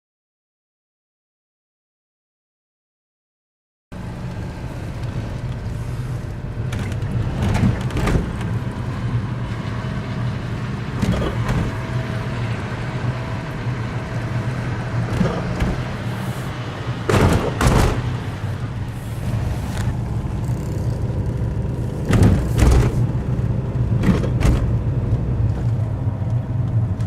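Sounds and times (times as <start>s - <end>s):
car engine and road noise: 3.9s - 27.0s.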